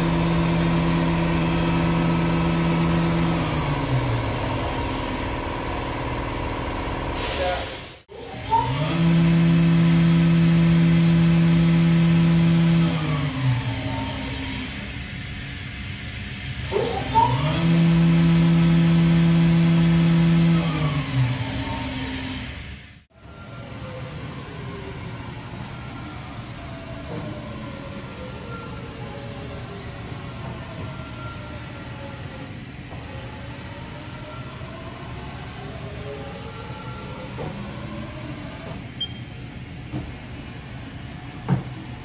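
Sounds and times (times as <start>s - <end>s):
machine spindle humming and whining: 0.0s - 7.2s, 8.1s - 42.0s.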